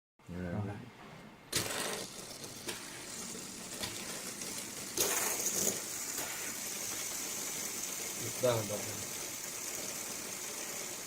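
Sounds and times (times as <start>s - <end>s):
fidget spinner whirring: 1.5s - 11.0s.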